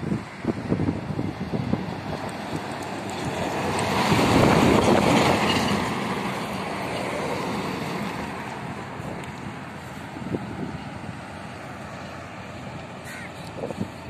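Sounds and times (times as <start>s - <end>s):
car passing: 0.0s - 14.0s
lorry passing at speed: 1.2s - 14.0s.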